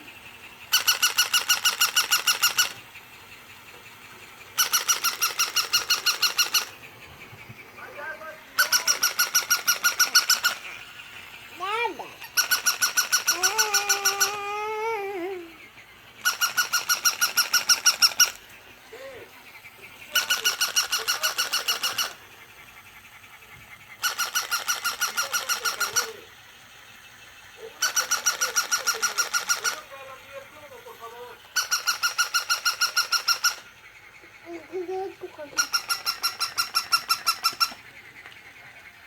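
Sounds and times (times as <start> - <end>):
toy dog electronic yapping: 0.0 - 6.9, 7.6 - 39.0.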